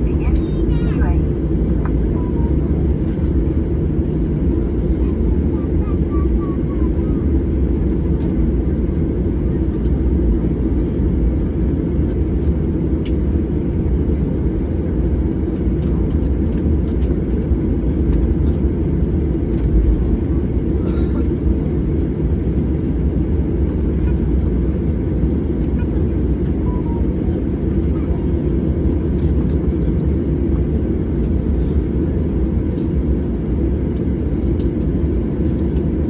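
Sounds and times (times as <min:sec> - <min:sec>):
airliner cabin rumble: 0:00.0 - 0:36.0.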